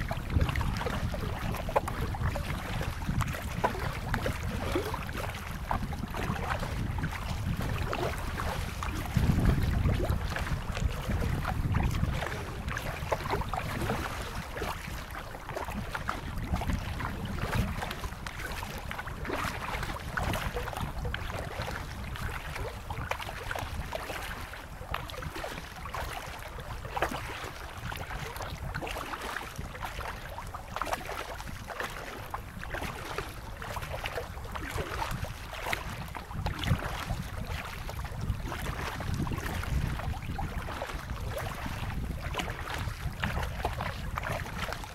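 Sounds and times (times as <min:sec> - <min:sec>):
paddles splashing in water: 0:00.0 - 0:44.9
wind noise on microphone: 0:00.0 - 0:44.9.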